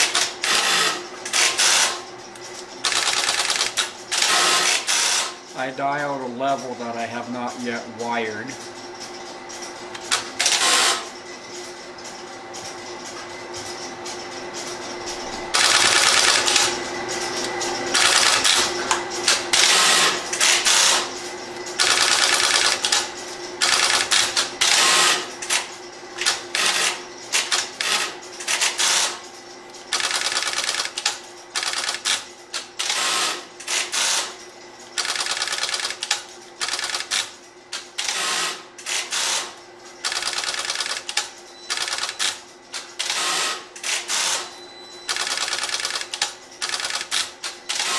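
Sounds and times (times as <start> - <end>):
rapid mechanical clicking of switches: 0.0 - 5.3, 14.0 - 44.5, 45.1 - 47.9.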